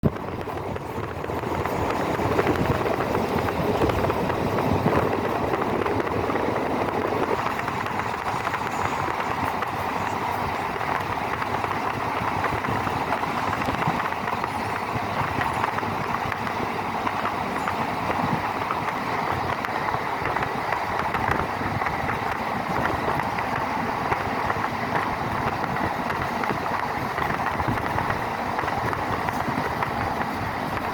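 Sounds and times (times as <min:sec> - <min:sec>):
rush of moving coach: 0:00.0 - 0:30.9
train wheels rumbling on rails: 0:00.0 - 0:30.9.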